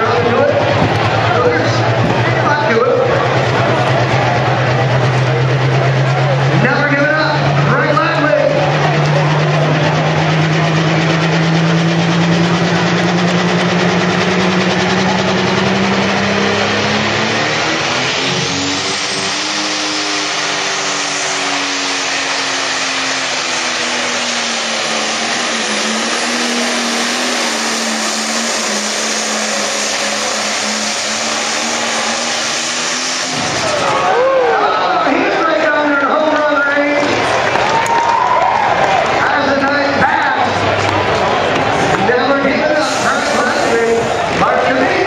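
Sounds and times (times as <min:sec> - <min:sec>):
diesel tractor engine under load: 0:00.0 - 0:45.0.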